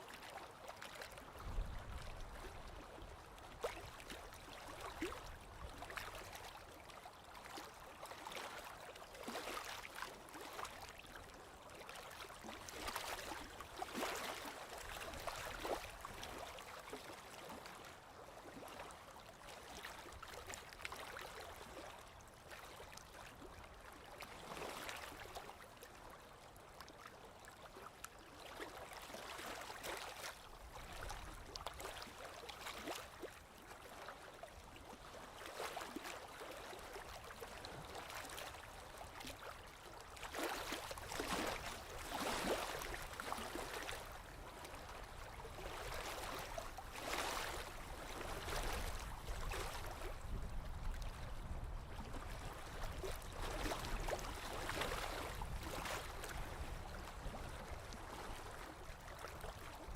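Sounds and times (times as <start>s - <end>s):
small waves lapping on shore: 0.0s - 59.9s
water splashes and trickles: 0.0s - 59.9s.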